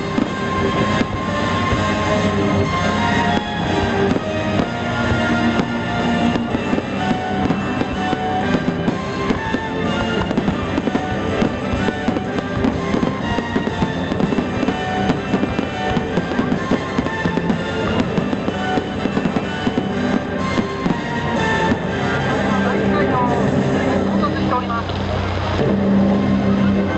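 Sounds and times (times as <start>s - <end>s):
fireworks popping and crackling: 0.0s - 26.9s
music: 0.0s - 26.9s.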